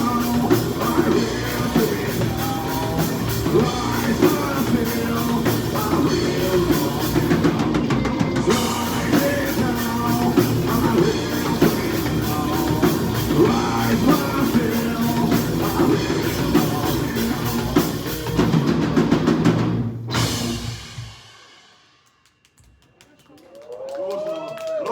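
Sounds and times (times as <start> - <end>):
metalcore band playing live: 0.0 - 21.7.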